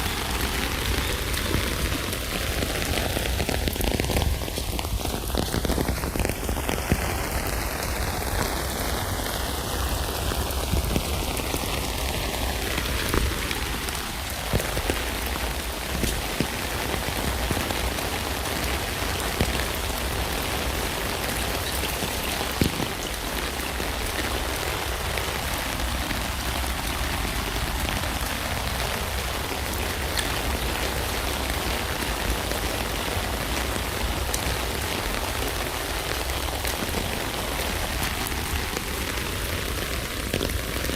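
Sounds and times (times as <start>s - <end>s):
rain falling on a tent: 0.0s - 40.9s.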